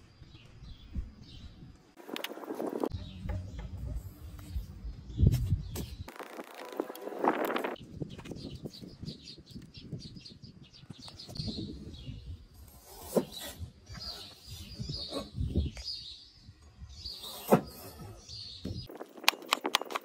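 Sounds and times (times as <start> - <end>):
small birds chirping: 0.0 - 6.6, 7.5 - 19.9.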